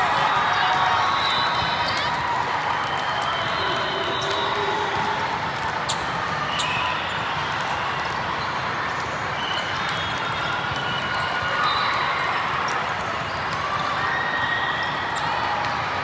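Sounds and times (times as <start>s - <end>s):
background hubbub: 0.0s - 16.0s.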